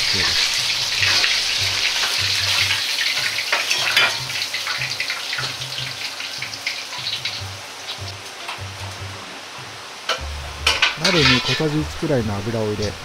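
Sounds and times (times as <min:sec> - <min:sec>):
hot oil crackling and sizzling: 0:00.0 - 0:13.0.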